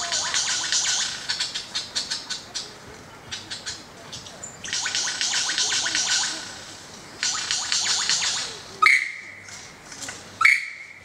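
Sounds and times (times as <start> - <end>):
lyrebird singing scratchy rattling notes: 0.0 - 2.7, 3.3 - 9.6.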